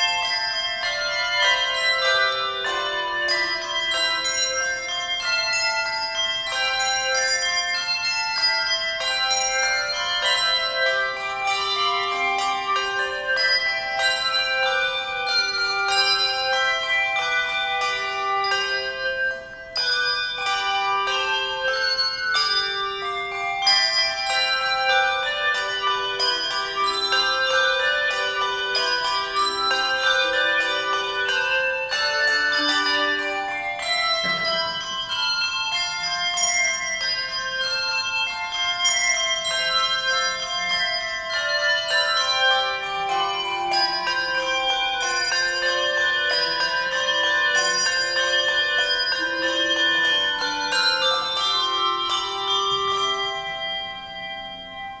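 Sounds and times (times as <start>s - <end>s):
handbell melody: 0.0s - 55.0s
low bass bells: 0.0s - 55.0s.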